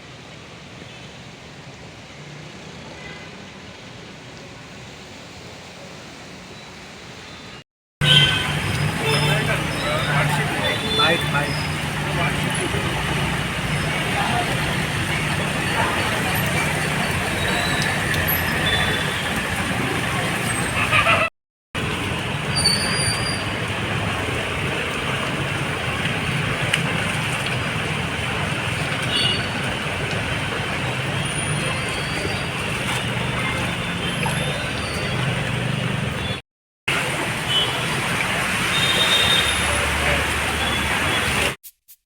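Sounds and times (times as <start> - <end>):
street traffic noise: 0.0 - 41.6.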